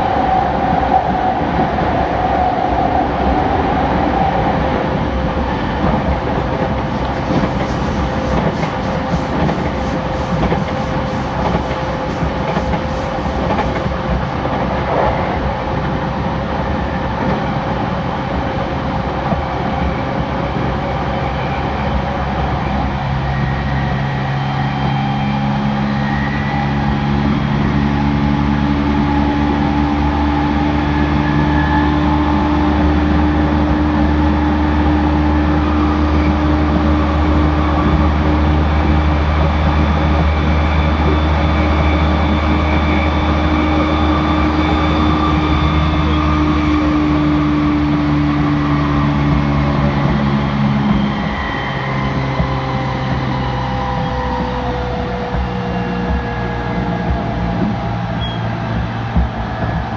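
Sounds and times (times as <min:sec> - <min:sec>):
train equipment humming: 0:00.0 - 0:59.9.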